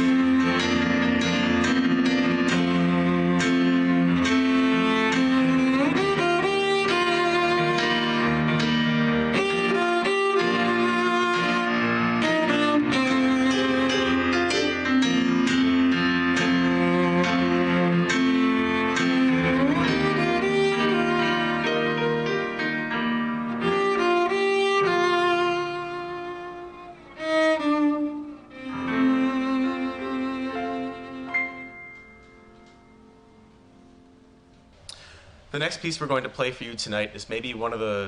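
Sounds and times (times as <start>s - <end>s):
cello playing bowed melody: 0.0s - 32.0s
piano playing: 0.0s - 36.7s.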